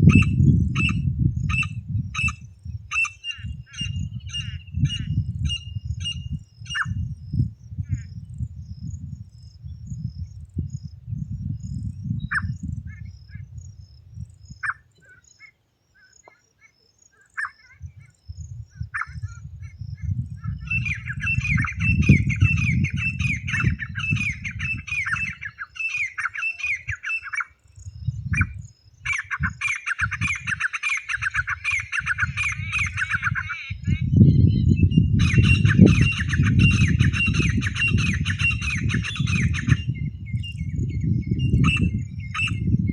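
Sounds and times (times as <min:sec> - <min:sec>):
francolin harsh calls: 0:00.0 - 0:08.2, 0:12.2 - 0:13.6, 0:14.4 - 0:42.7.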